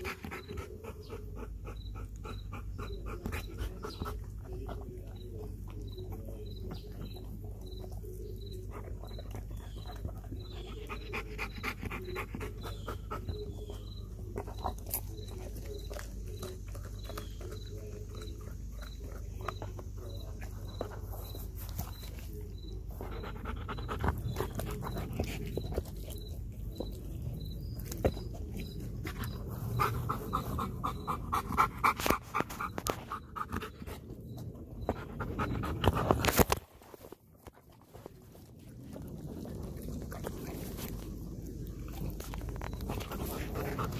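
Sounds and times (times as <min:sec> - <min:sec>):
dog panting: 0:00.0 - 0:36.5, 0:38.1 - 0:43.9
dog chewing and crunching: 0:00.0 - 0:43.9.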